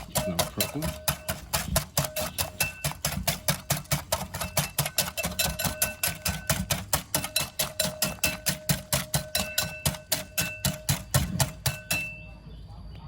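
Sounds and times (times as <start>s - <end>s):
whisk knocking a bowl: 0.0s - 12.2s.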